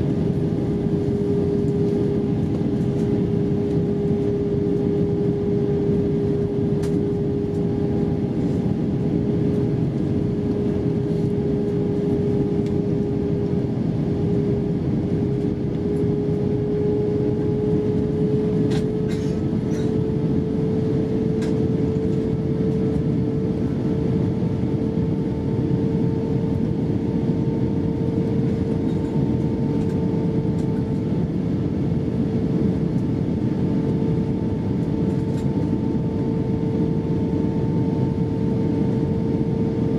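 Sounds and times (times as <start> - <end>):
jet engines humming: 0.0 - 39.9.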